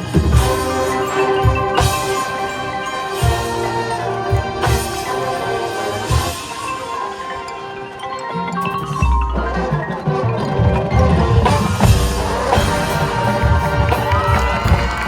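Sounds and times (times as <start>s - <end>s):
steady drum beats: 0.0s - 7.1s, 9.0s - 15.0s
mallet percussion ringing: 0.0s - 15.0s
marching band playing: 0.0s - 15.0s.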